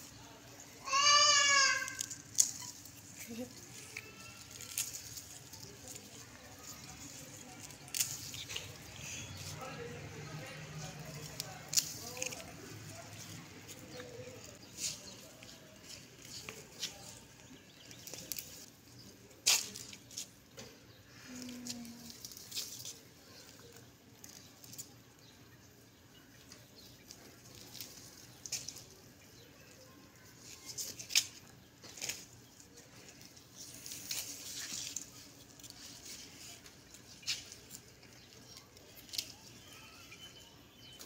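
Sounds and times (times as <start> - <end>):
leaves and stems rustling: 0.0 - 41.0.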